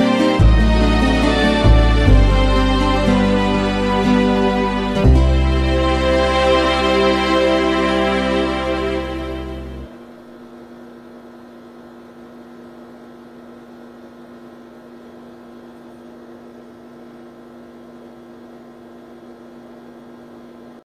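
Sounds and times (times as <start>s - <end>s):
electrical hum with faint hiss: 0.0s - 20.8s.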